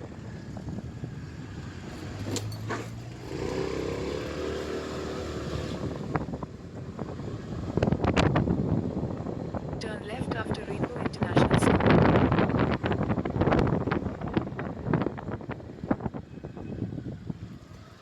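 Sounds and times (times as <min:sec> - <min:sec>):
wind on microphone: 0:00.0 - 0:17.9
motorcycle engine rumble: 0:00.0 - 0:18.0.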